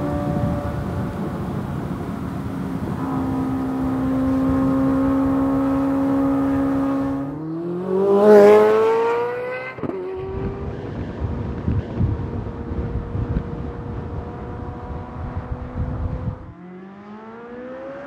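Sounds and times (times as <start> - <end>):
car exhaust revving: 0.0 - 17.7.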